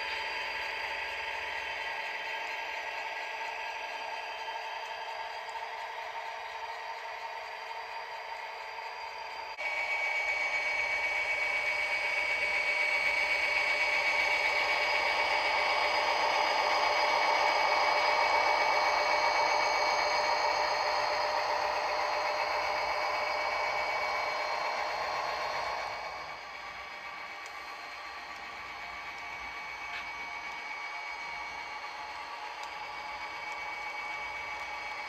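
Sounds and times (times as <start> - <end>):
small electric motors whining: 0.0 - 35.0.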